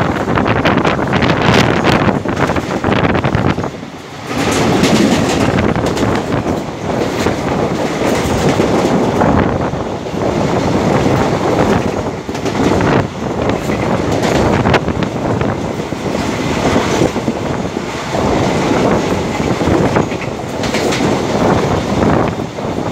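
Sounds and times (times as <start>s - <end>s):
train wheel and rail noise: 0.0s - 22.9s
wind rushing: 0.0s - 22.9s.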